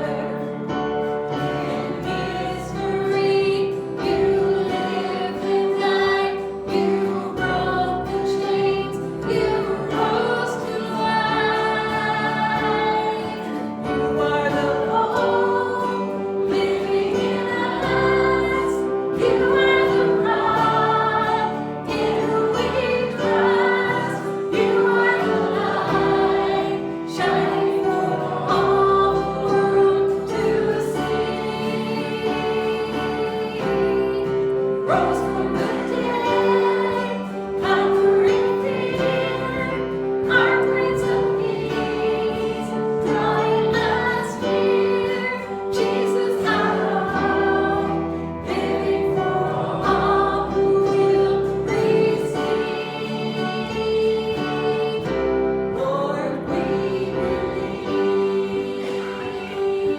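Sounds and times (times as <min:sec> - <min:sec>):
group singing worship song: 0:00.0 - 0:59.9
instrumental accompaniment: 0:00.0 - 0:59.9.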